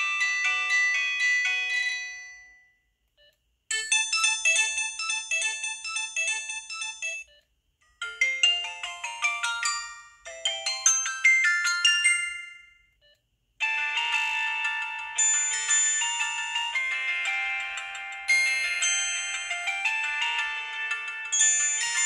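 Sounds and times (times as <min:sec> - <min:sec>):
mobile phone ringtone melodies: 0:00.0 - 0:02.8, 0:03.7 - 0:07.4, 0:08.0 - 0:12.9, 0:13.6 - 0:22.0.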